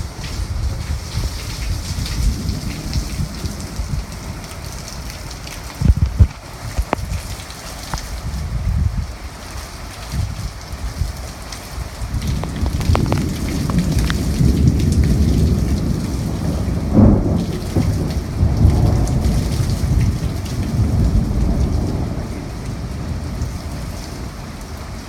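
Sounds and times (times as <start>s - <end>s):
thunder rumbling: 0.0s - 7.5s, 11.8s - 25.0s
heavy rain: 0.0s - 25.0s.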